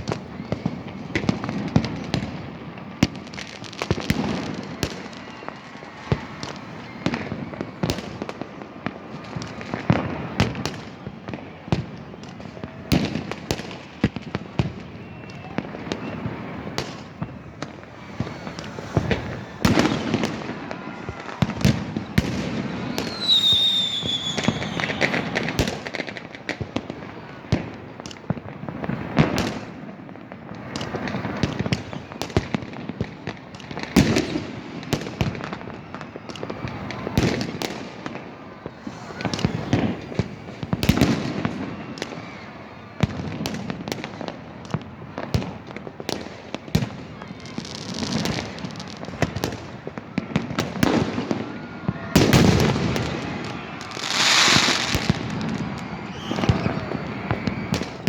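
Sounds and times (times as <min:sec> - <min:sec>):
firework whistle: 0:00.0 - 0:27.6, 0:30.5 - 0:45.5, 0:46.1 - 0:58.0
fireworks bangs: 0:00.0 - 0:58.0
rumble of distant fireworks: 0:00.0 - 0:58.0.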